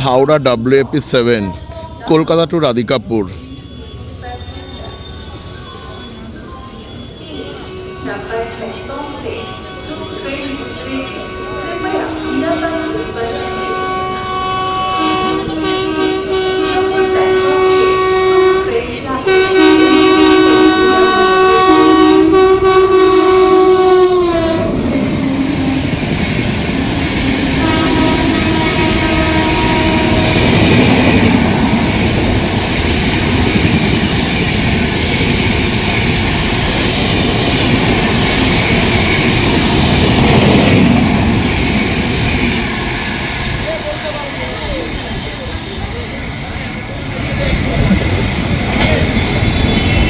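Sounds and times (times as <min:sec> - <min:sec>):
train coaches rolling past: 0:00.0 - 0:50.0
locomotive multi-tone horn: 0:03.4 - 0:43.7.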